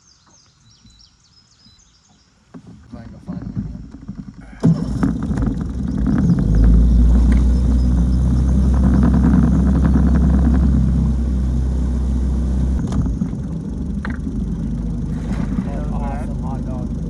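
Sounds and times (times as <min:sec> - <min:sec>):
outboard motor running: 0:02.6 - 0:17.0.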